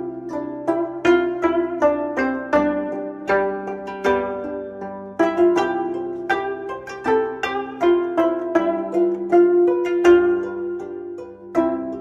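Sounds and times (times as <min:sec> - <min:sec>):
plucked zither melody: 0:00.0 - 0:12.0.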